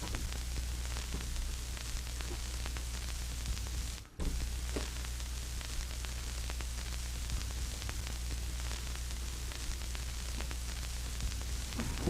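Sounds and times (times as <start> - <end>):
low electrical hum: 0.0 - 12.0
static hiss: 0.0 - 12.0.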